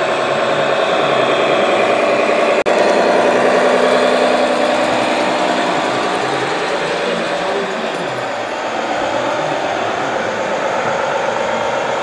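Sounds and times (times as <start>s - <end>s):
model truck motor humming: 0.0s - 12.0s.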